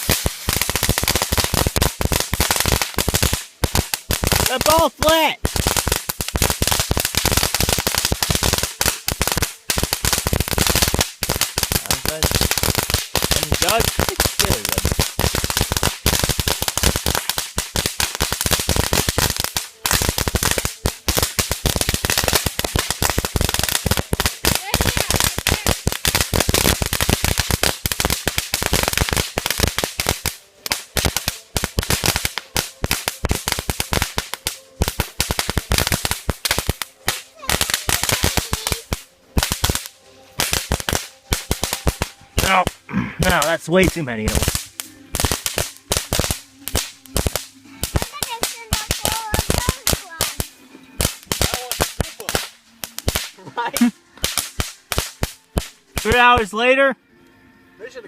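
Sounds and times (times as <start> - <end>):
firecrackers banging: 0.0 - 56.8.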